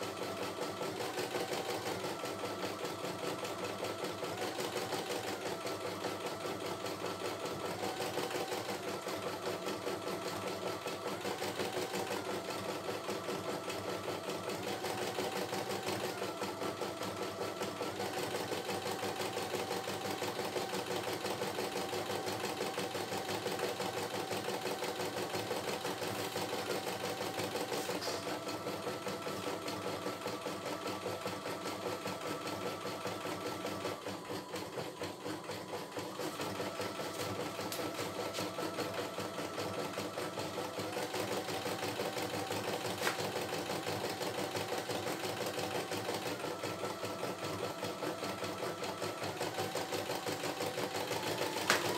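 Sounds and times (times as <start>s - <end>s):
machine whine: 0.0s - 51.9s.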